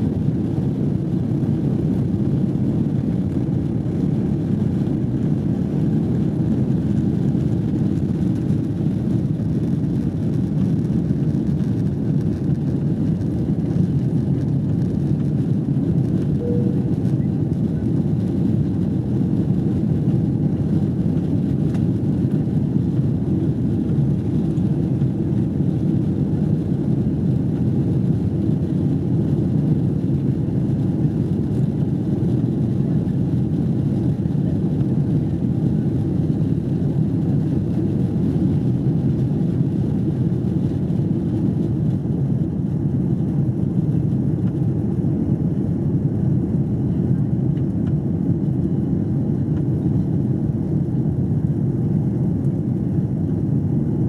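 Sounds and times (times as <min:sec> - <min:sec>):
airplane cabin engine noise: 0:00.0 - 0:54.0.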